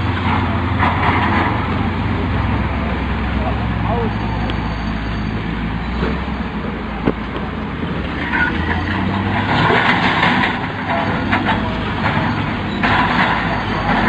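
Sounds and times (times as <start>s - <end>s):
gravel crunching and rattling: 0.0s - 14.0s
truck engine running: 0.0s - 14.0s.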